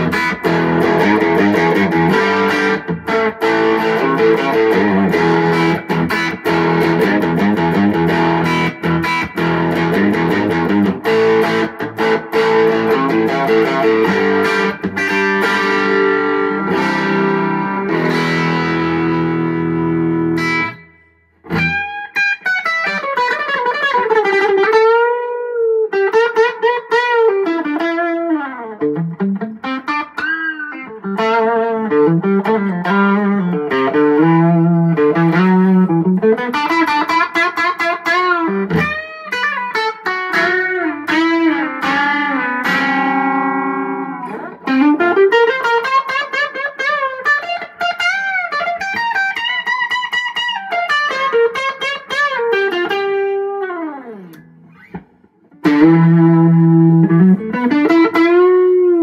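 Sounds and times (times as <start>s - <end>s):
electric guitar lead line: 0.0s - 59.0s.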